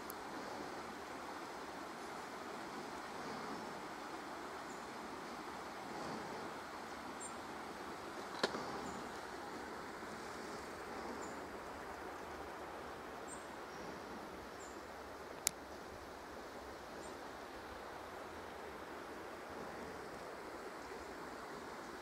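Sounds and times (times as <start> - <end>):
soft forest rush: 0.0 - 22.0.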